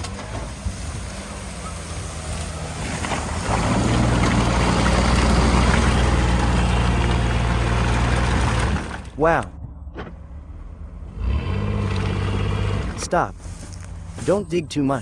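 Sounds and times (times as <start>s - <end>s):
vehicle engine droning under load: 0.0s - 14.5s.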